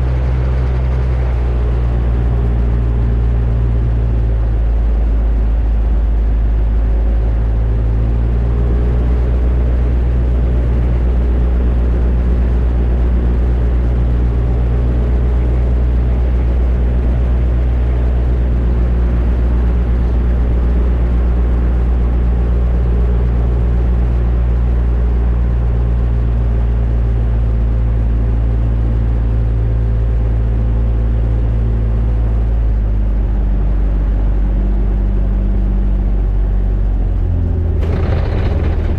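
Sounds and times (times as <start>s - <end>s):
microlight engine droning: 0.0s - 38.9s.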